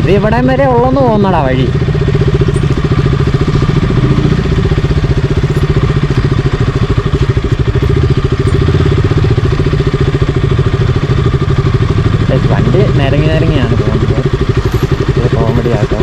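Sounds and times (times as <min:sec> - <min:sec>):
motorcycle engine throbbing: 0:00.0 - 0:16.0.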